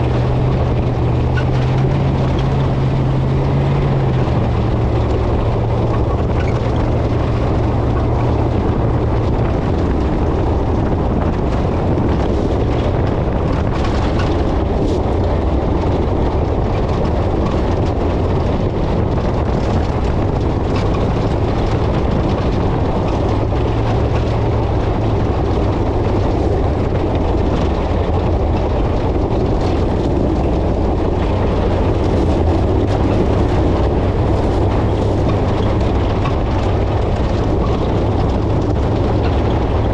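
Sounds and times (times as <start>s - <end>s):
truck engine drone: 0.0s - 39.9s
tyre and chassis rumble: 0.0s - 39.9s.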